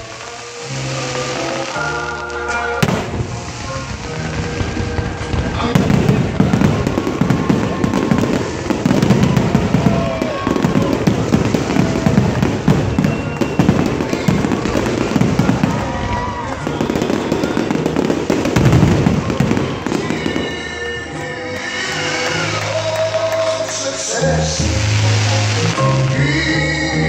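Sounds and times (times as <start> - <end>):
fireworks bangs and crackling: 0.0 - 26.8.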